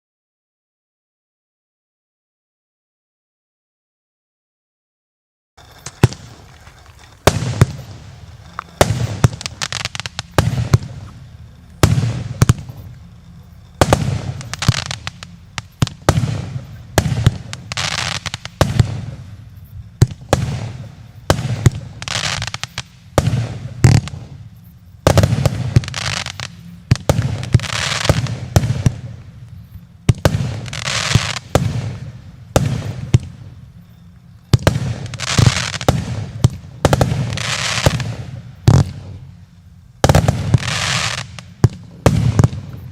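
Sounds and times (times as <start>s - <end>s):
firework bangs: 5.6s - 33.9s, 34.5s - 39.4s, 40.0s - 42.9s
firework hiss: 5.6s - 42.9s.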